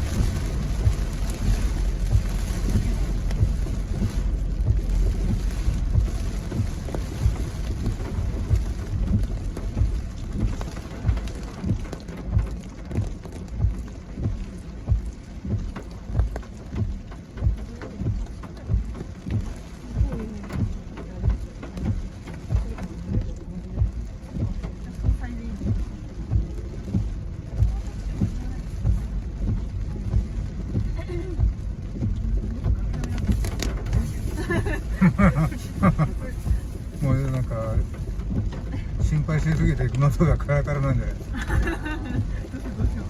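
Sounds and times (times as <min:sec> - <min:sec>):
rain on a car: 0:00.0 - 0:43.0
regular thump: 0:00.0 - 0:43.0
road and tyre noise: 0:00.0 - 0:43.0.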